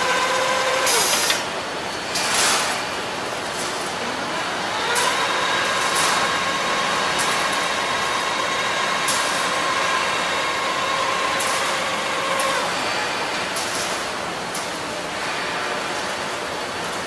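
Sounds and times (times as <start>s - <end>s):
steady machine noise: 0.0s - 16.5s.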